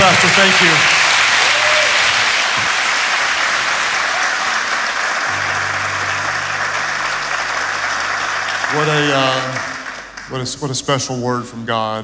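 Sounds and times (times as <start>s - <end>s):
congregation applauding: 0.0s - 11.2s.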